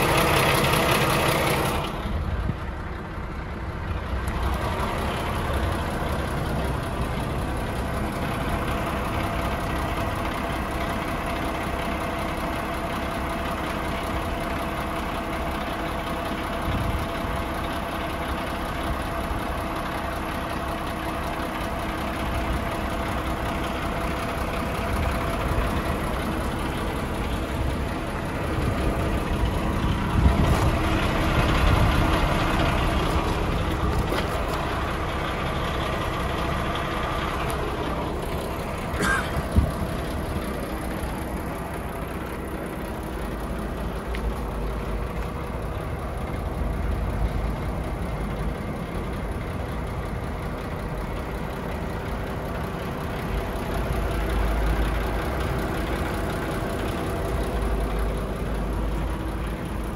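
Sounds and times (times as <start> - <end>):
truck diesel engine idling: 0.0 - 59.9.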